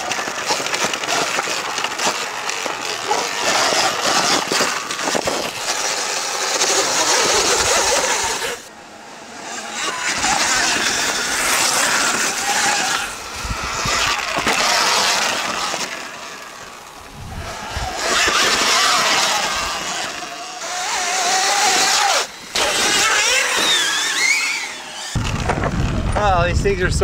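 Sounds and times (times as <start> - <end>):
electric motor whine: 0.0 - 26.2
tyres rushing on dirt: 0.0 - 27.0.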